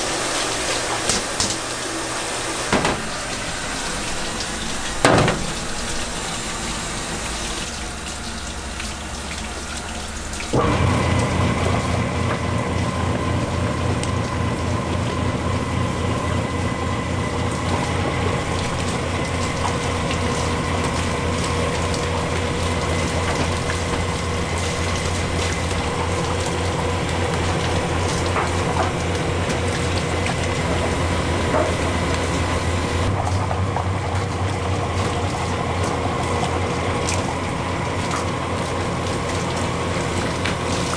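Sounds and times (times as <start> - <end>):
machine motor hum with throb: 0.0 - 40.9
water splashing into tub: 0.0 - 40.9.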